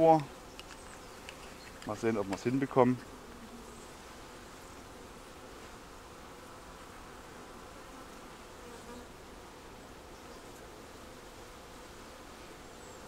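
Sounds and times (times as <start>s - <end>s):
honeybees humming: 0.0s - 13.0s.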